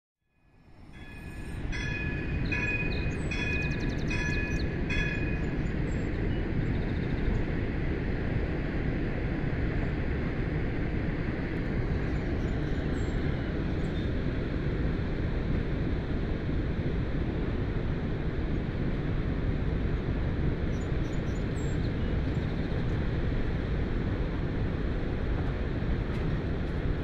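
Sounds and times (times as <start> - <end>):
wind rumble on microphone: 0.7 - 27.0.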